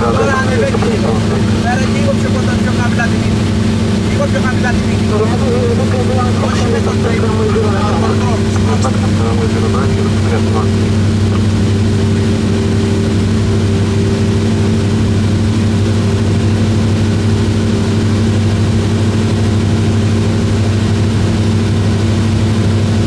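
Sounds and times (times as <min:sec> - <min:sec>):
airplane engine droning: 0:00.0 - 0:23.0.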